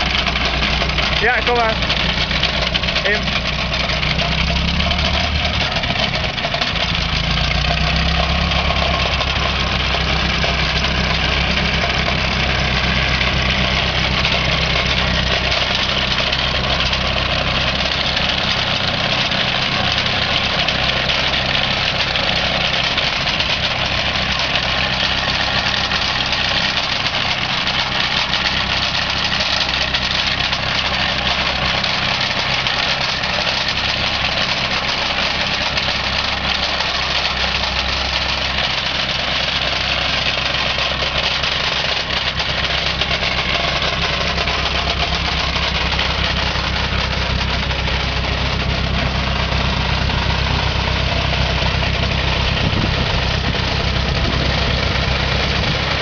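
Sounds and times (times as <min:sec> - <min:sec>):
radiator fan and bearing rattle: 0:00.0 - 0:56.0
tractor diesel engine running: 0:00.0 - 0:56.0.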